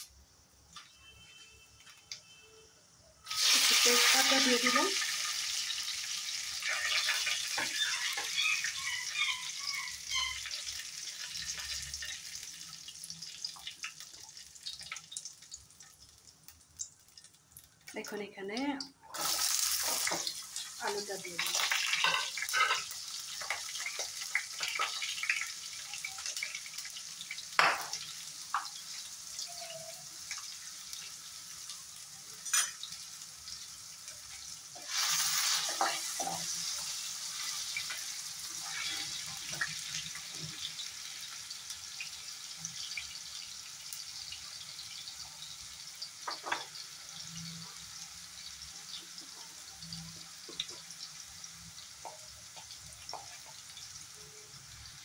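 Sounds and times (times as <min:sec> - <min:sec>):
potatoes sizzling in oil: 0:00.0 - 0:01.2, 0:03.2 - 0:55.0.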